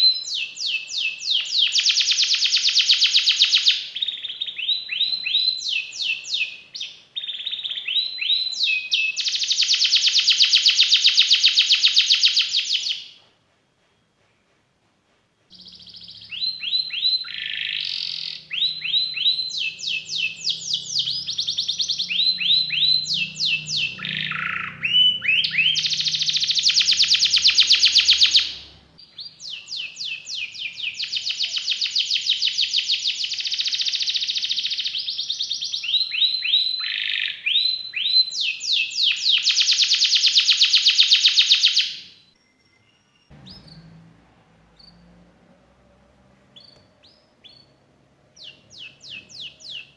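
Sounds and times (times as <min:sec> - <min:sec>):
canary singing: 0:00.0 - 0:13.1, 0:15.5 - 0:49.9.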